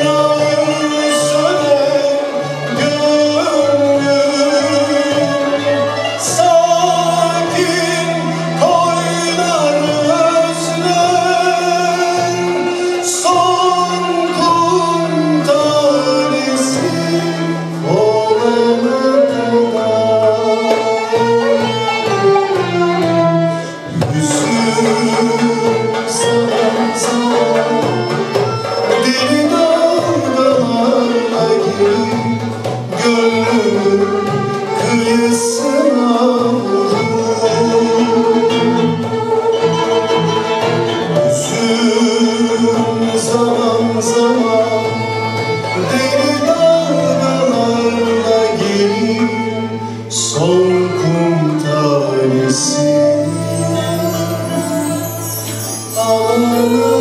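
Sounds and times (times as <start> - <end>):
man singing: 0.0 - 57.0
violins and ensemble accompanying: 0.0 - 57.0.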